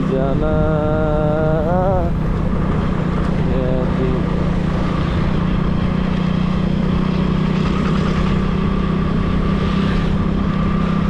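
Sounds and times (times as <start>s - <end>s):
vehicle engine humming: 0.0s - 11.0s
wind and road noise: 0.0s - 11.0s.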